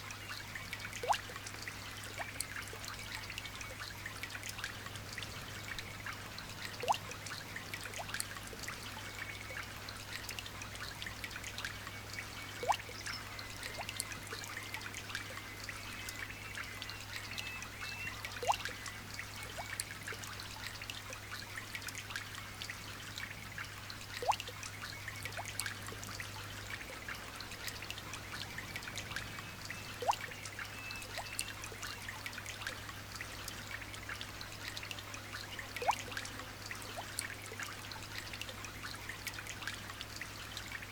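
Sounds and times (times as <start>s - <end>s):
rain dripping and trickling: 0.0s - 40.9s.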